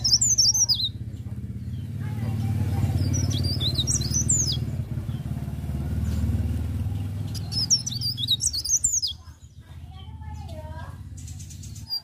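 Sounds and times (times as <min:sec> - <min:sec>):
bird warbling: 0:00.0 - 0:09.6, 0:10.3 - 0:12.0
low engine rumble: 0:00.0 - 0:12.0.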